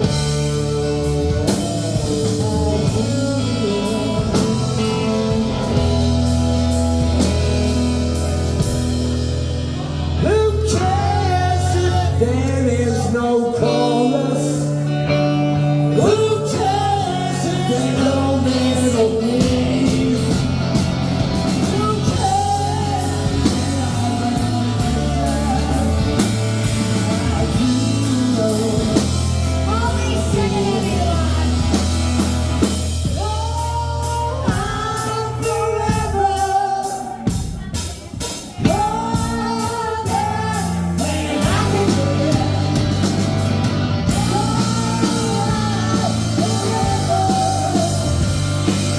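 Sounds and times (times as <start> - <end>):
hard-hit drums and cymbals: 0.0 - 11.7, 16.5 - 48.9
rock band playing with vocals: 0.0 - 48.9.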